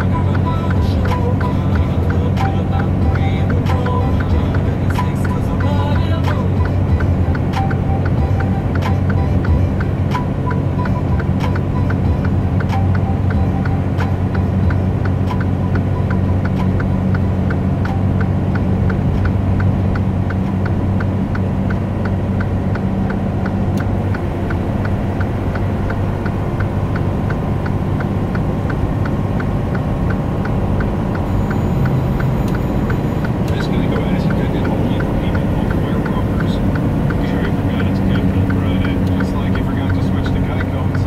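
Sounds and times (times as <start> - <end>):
light regular ticking: 0.0 - 41.0
road noise: 0.0 - 41.0
truck engine drone: 0.0 - 41.0.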